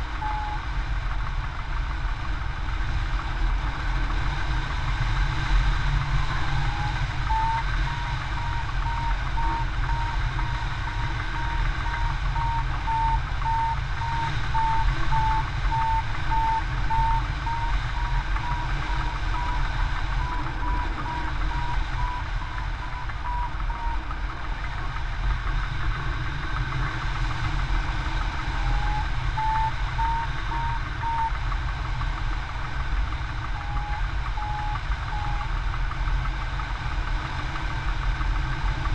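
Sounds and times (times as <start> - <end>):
variometer beeping: 0.0 - 0.7, 5.8 - 25.1, 27.4 - 38.9.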